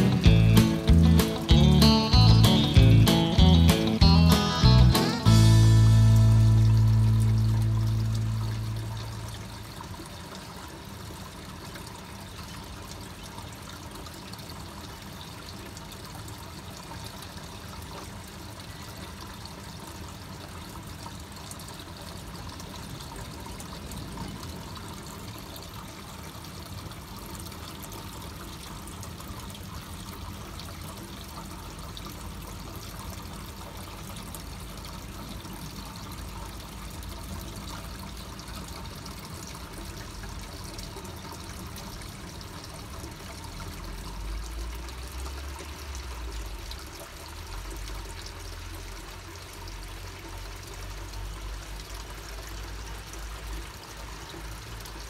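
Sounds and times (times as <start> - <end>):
water trickling and pouring: 0.0 - 55.0.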